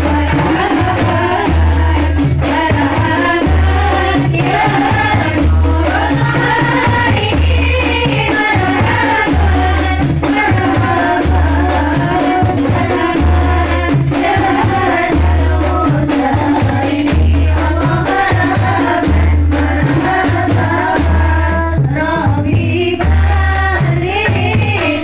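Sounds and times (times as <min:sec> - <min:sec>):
frame drums beating: 0:00.0 - 0:25.0
women singing together: 0:00.0 - 0:25.0.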